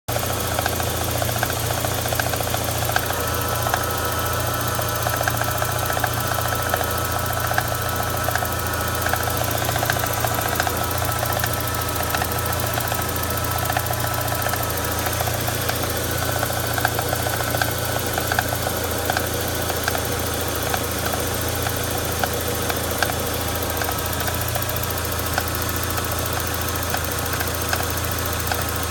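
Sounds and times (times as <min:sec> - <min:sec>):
car engine idling: 0:00.1 - 0:28.9
engine tapping tick: 0:00.1 - 0:28.9.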